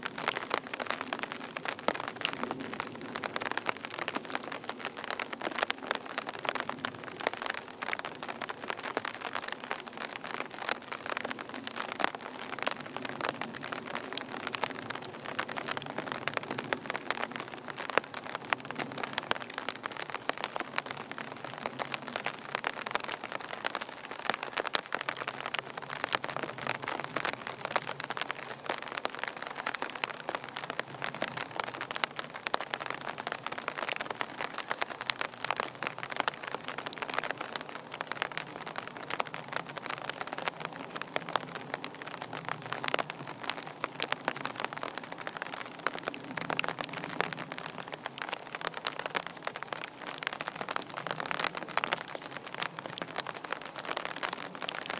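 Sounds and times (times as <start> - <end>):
raindrops ticking close by: 0.0 - 54.9
steady rain: 0.0 - 54.9.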